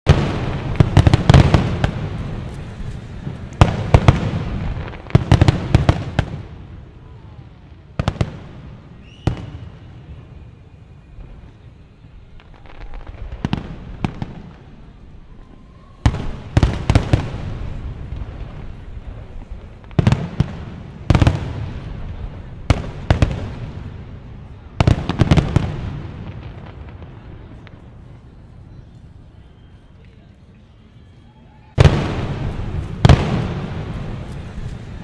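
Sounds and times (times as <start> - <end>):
fireworks banging and crackling: 0.1 - 30.7, 31.7 - 35.0.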